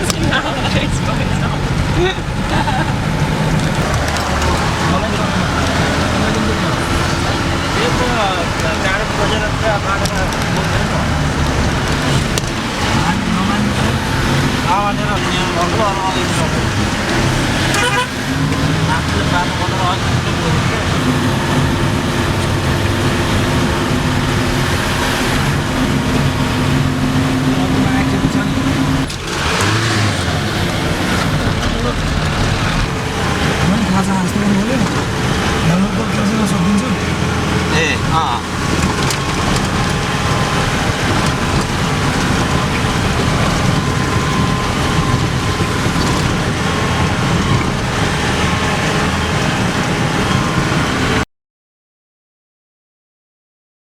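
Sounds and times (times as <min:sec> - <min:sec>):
vehicle engine running: 0:00.0 - 0:51.2
road noise hiss: 0:01.3 - 0:51.2.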